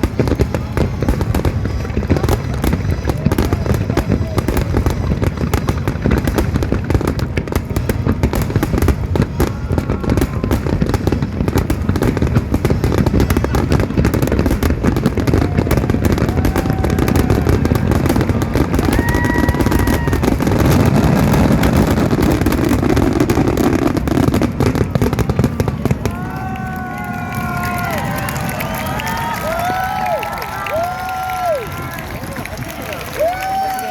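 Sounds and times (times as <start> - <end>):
fireworks bursts and crackling: 0.0 - 33.9.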